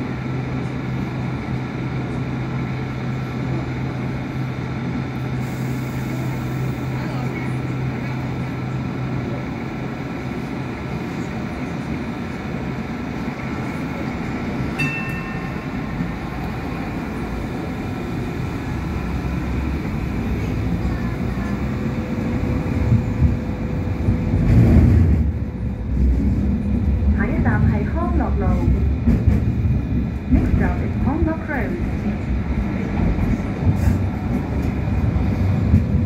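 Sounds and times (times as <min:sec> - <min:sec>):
light rail car rolling and motor noise: 0:00.0 - 0:36.0.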